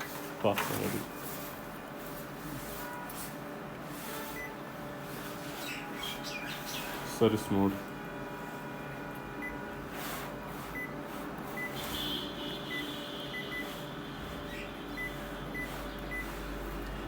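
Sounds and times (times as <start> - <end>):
copier humming: 0.0 - 17.0.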